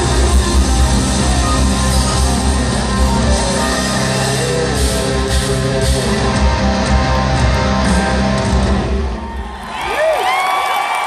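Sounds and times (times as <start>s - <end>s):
live rock band playing loud: 0.0s - 9.4s.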